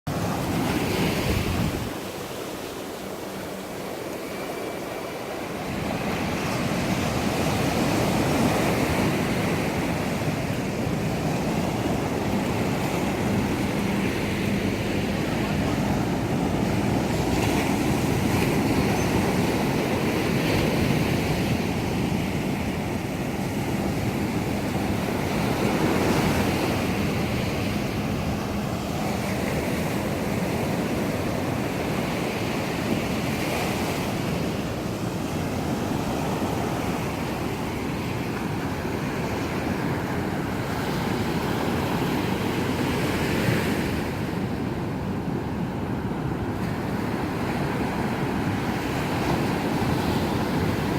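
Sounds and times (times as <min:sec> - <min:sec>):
wind buffeting microphone: 0:00.1 - 0:02.0, 0:04.2 - 0:50.9.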